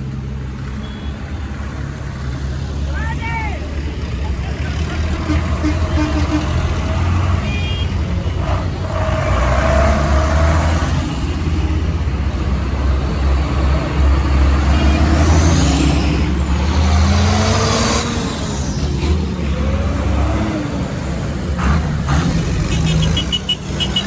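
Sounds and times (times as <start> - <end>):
tractor engines running: 0.0 - 24.0.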